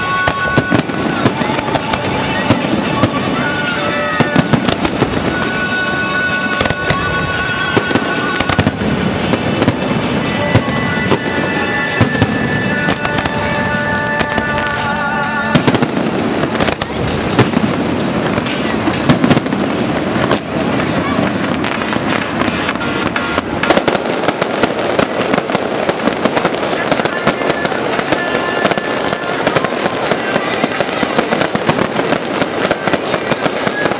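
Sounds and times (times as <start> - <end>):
firework bangs and crackles: 0.0 - 33.9
music: 0.0 - 33.9.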